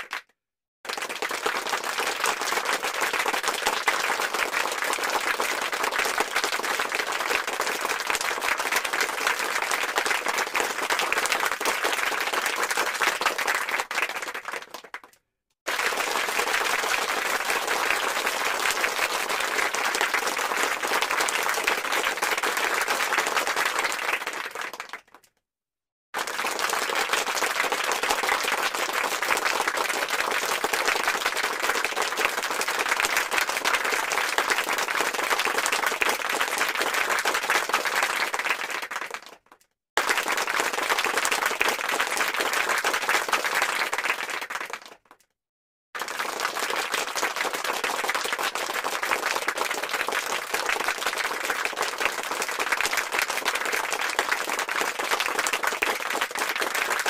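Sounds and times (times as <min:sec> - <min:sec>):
crowd applauding: 0:00.0 - 0:00.2, 0:00.8 - 0:25.2, 0:26.2 - 0:45.1, 0:46.0 - 0:57.0.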